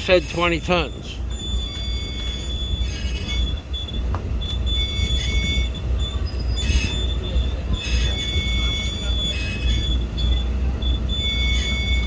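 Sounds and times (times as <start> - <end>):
wire rope and sheaves squealing: 0.0 - 12.0.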